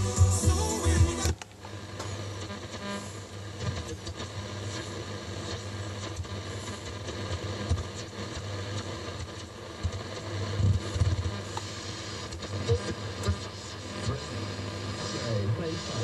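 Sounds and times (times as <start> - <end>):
radio static and hiss: 0.0 - 16.0
steady low hum: 0.0 - 16.0.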